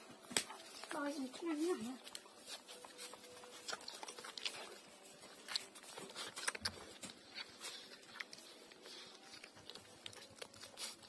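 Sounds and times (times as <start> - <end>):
puppies suckling: 0.9 - 11.0.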